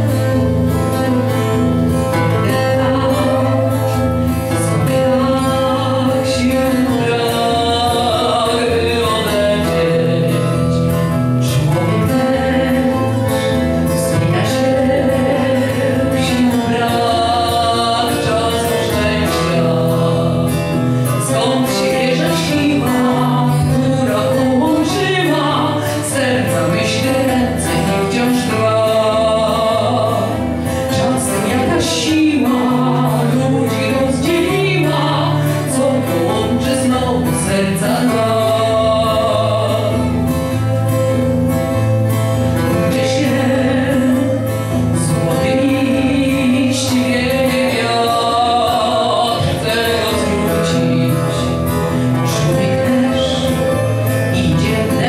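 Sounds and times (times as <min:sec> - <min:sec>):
woman singing into a microphone: 0:00.0 - 0:40.8, 0:42.5 - 0:55.0
instrumental accompaniment with bass: 0:00.0 - 0:55.0.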